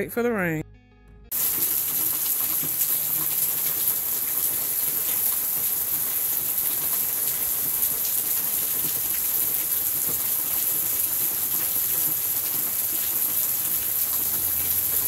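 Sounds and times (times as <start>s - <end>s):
heavy rain falling: 1.3s - 15.0s.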